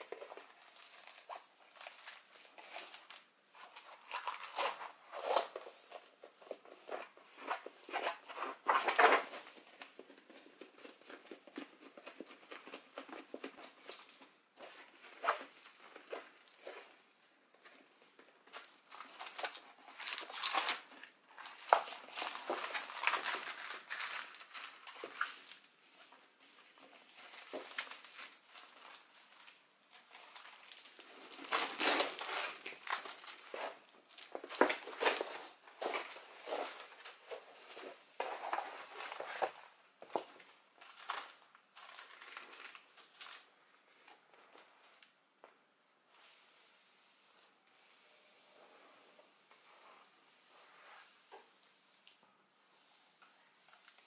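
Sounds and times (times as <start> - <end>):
plastic film and paper rustling: 0.0 - 45.2, 52.8 - 54.0.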